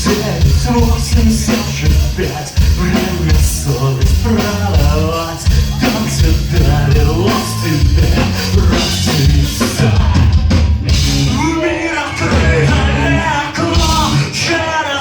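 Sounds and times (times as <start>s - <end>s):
person singing: 0.0s - 15.0s
rock band playing: 0.0s - 15.0s.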